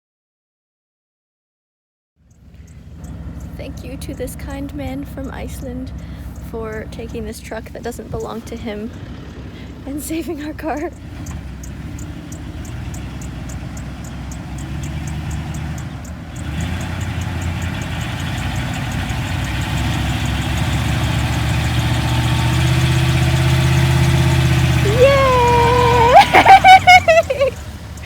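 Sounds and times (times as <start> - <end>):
vehicle engine running: 2.2 - 28.0
light ticking: 2.3 - 9.8, 10.8 - 28.0.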